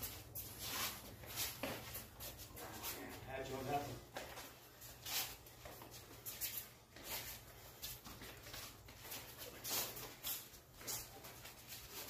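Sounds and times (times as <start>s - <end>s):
feet shuffling on concrete: 0.0s - 12.0s.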